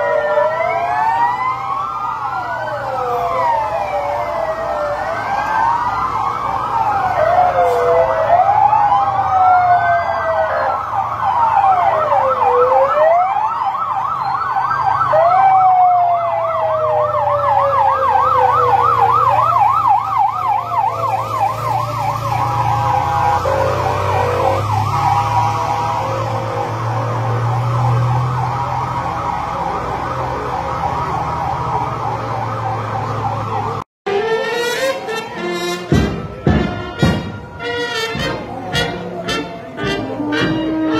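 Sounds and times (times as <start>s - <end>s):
siren yelp warbling: 0.0s - 40.9s
sirens wailing: 0.0s - 40.9s
vehicle engines rumbling: 0.0s - 40.9s.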